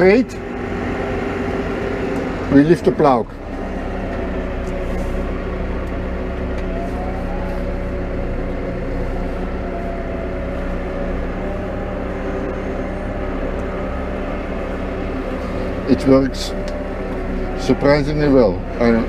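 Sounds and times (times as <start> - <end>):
short rising whine: 0.0 - 19.0
tractor diesel engine running: 0.0 - 19.0.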